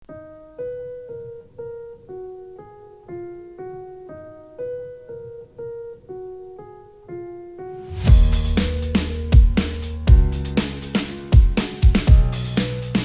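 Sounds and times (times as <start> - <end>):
keyboard melody: 0.1 - 13.0.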